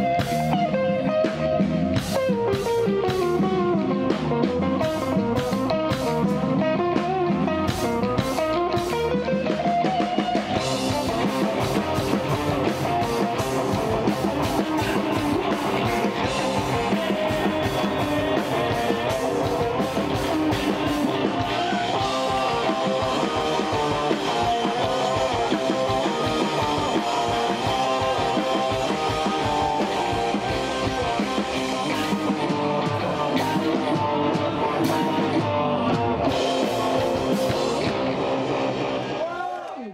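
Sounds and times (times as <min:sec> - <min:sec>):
bass guitar: 0:00.0 - 0:39.5
electric guitar: 0:00.0 - 0:39.7
drum kit: 0:00.0 - 0:39.8.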